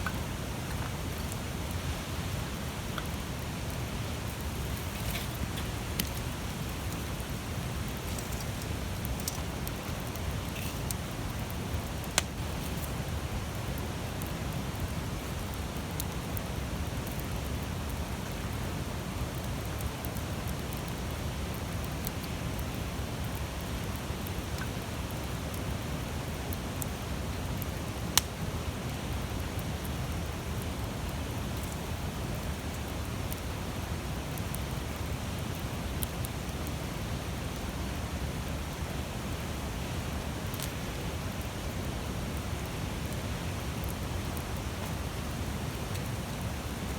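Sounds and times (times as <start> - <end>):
campfire burning and crackling: 0.0 - 46.9.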